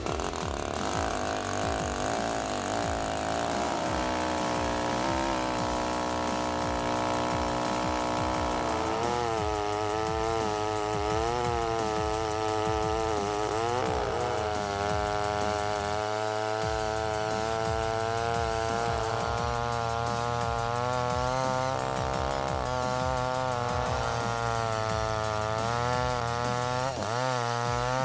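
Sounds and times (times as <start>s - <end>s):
chainsaw engine high revs: 0.0s - 28.0s.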